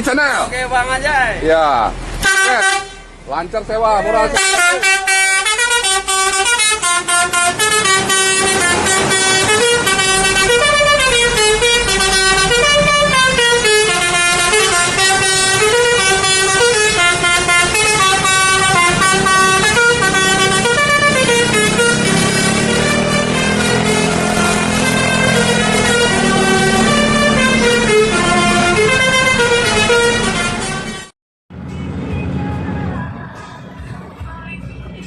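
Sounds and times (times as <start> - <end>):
multi-tone bus horn tune: 2.2 - 3.3, 4.0 - 32.4.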